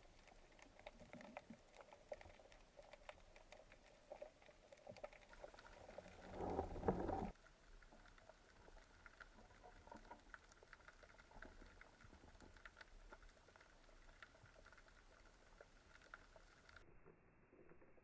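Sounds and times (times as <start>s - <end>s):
faint underwater crackling: 0.0s - 18.0s.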